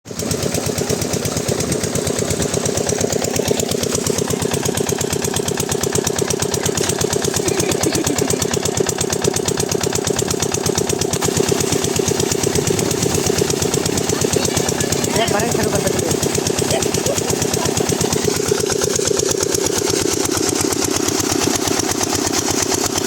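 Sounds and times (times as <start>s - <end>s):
diesel engine running steadily: 0.1s - 23.0s.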